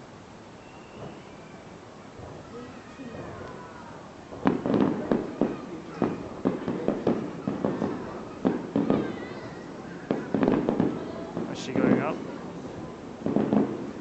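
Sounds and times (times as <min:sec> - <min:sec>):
fireworks bursting with rumbling tail: 0:00.9 - 0:14.0.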